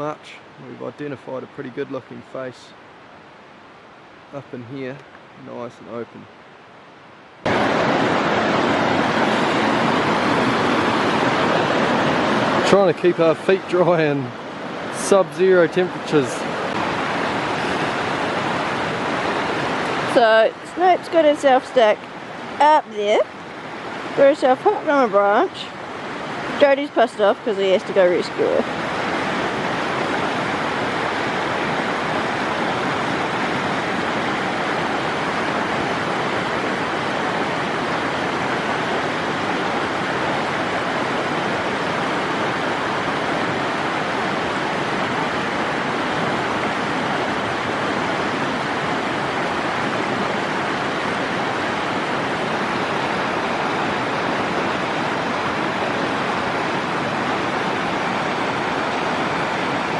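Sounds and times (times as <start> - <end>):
fast-flowing river rushing: 2.8 - 59.9.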